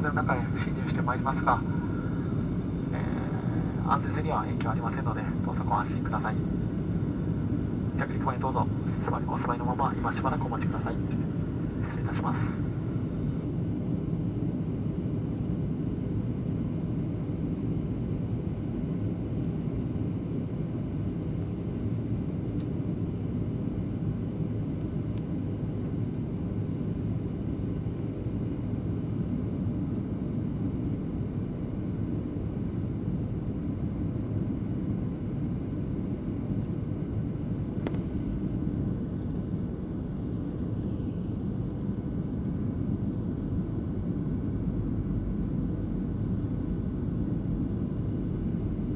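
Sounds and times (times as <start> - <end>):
airliner engine rumble: 0.0 - 48.9.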